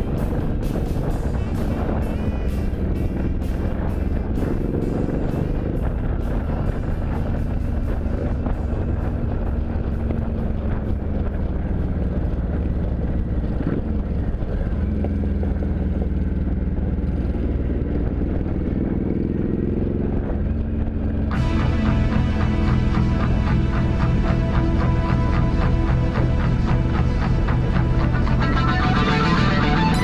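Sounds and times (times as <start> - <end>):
motorcycle engine running: 0.0 - 30.0
rushing wind noise: 0.0 - 30.0.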